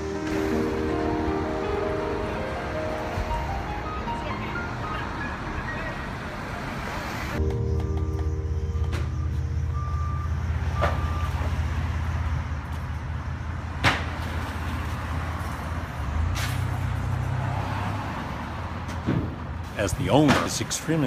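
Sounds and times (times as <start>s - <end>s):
heavy vehicle engine running: 0.0s - 17.5s.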